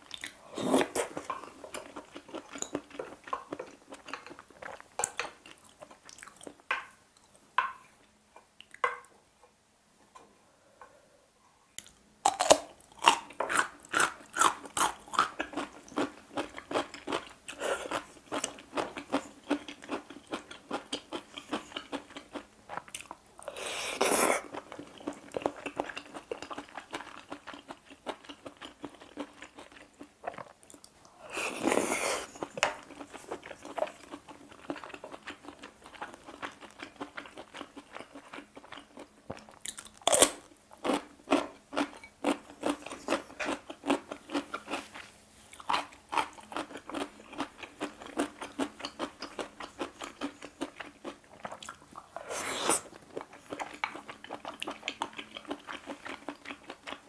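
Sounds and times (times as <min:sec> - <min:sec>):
chewing and crunching food: 0:00.0 - 0:07.7, 0:11.8 - 0:57.0.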